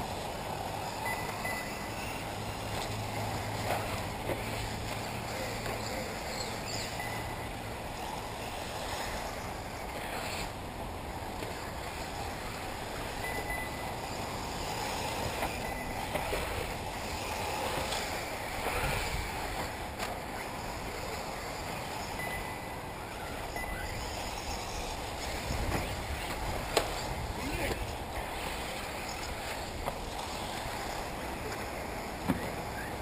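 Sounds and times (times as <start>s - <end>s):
high whine of electric buggies: 0.0s - 33.0s
steady rushing outdoor noise: 0.0s - 33.0s.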